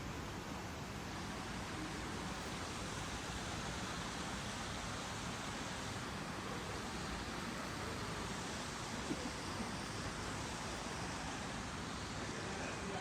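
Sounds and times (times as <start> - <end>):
outdoor ambient noise: 0.0 - 13.0.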